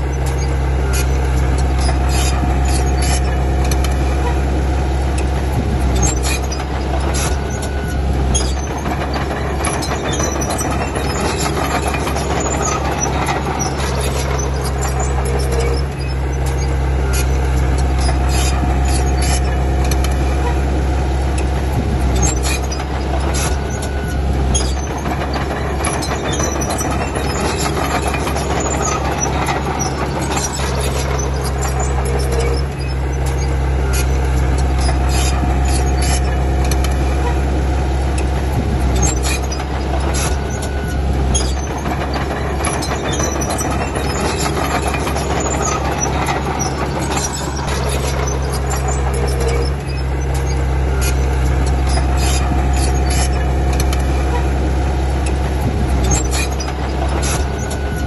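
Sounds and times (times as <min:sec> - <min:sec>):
bulldozer diesel engine running: 0:00.0 - 0:58.0
metallic clanks and squeaks: 0:00.0 - 0:58.0.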